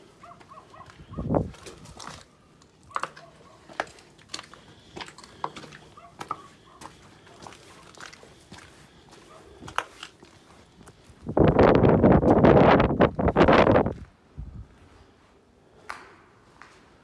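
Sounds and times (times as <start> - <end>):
footsteps crunching over rubble: 0.0 - 14.8.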